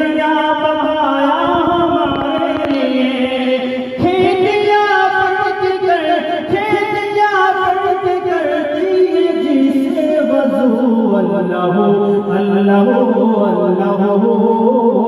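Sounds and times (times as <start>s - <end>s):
man singing over loudspeaker: 0.0s - 15.0s.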